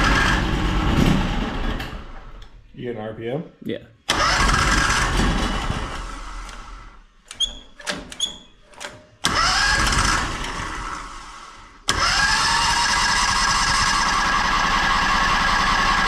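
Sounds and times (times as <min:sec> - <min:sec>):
engine cranking on electric starter: 0:00.0 - 0:02.4, 0:04.1 - 0:08.2, 0:09.2 - 0:16.0.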